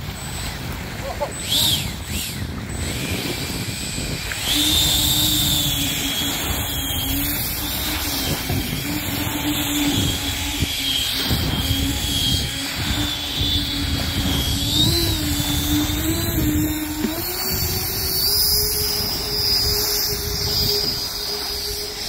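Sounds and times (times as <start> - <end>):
electric fan whine: 0.0 - 22.0.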